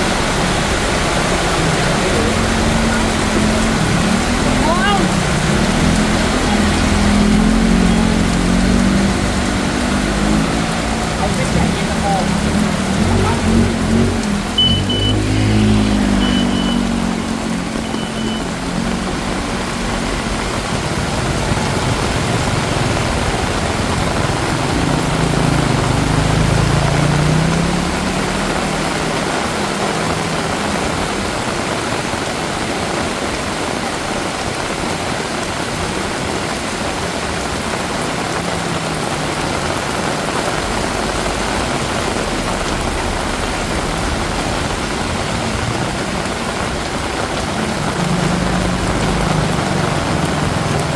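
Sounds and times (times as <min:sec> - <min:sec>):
heavy rain: 0:00.0 - 0:50.9.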